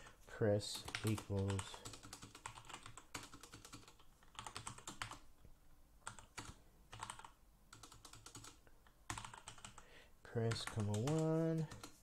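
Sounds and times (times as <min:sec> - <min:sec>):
typing on computer keyboard: 0:00.8 - 0:05.2, 0:06.0 - 0:09.8, 0:10.5 - 0:12.0.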